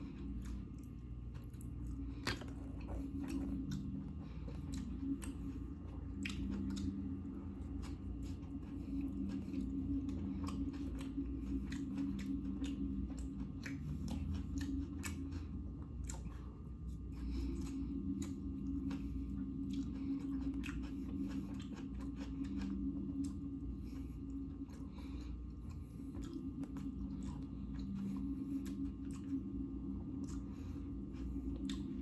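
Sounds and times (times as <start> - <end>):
person chewing: 0.0 - 32.0
steady low hum: 0.0 - 32.0.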